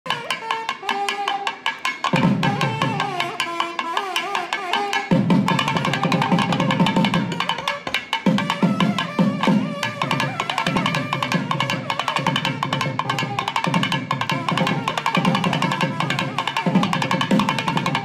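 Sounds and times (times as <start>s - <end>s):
fast drum and percussion rhythm: 0.0s - 18.0s.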